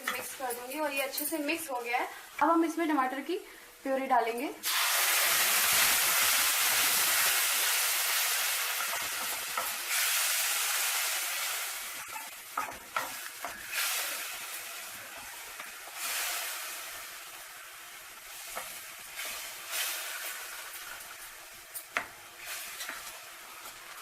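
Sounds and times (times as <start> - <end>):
puree sizzling in hot oil: 4.6 - 24.0.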